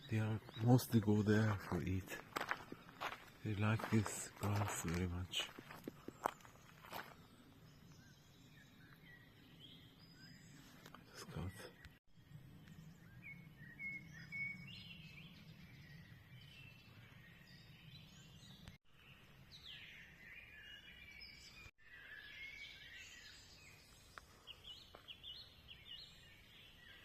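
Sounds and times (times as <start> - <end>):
faint songbirds singing: 0.0 - 27.0.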